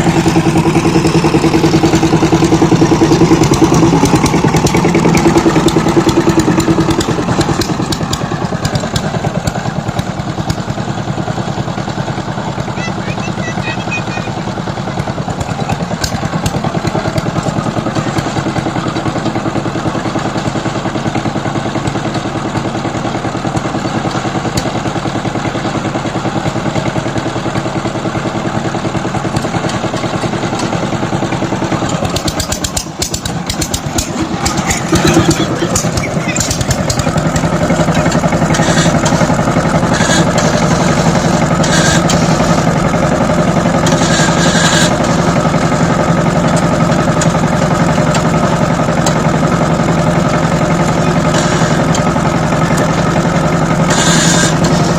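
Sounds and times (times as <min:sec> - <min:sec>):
power tiller engine running: 0:00.0 - 0:54.9.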